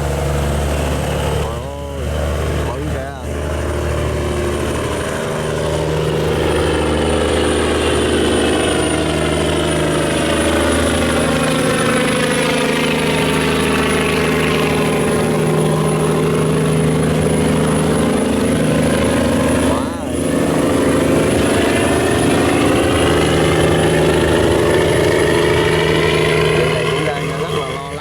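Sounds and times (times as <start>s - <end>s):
barge diesel engine drone: 0.0s - 28.0s.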